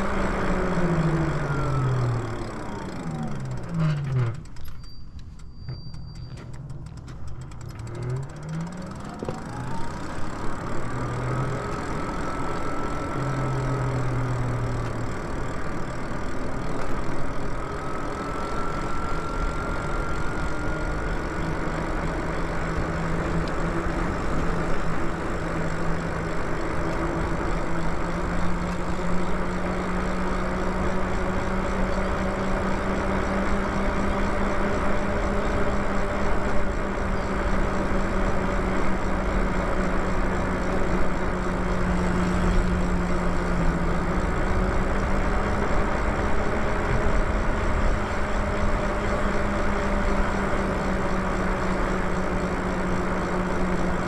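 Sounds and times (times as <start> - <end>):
electric motor whining: 0.0 - 54.0
tyres humming on asphalt: 0.0 - 54.0.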